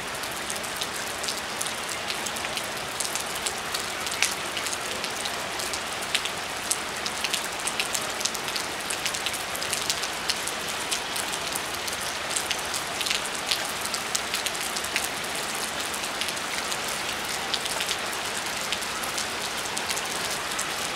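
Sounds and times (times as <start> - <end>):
rain on concrete roof: 0.0 - 20.9.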